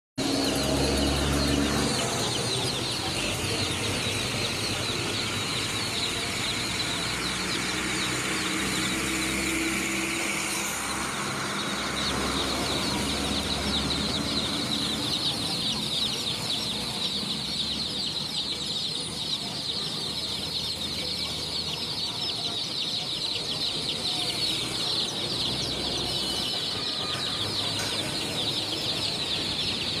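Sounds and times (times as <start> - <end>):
baby chicks cheeping: 0.2 - 30.0.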